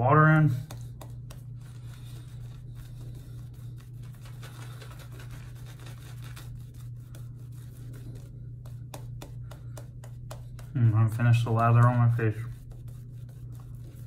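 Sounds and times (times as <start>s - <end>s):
steady low hum: 0.0s - 14.0s
shaving brush swishing on face: 0.5s - 14.0s.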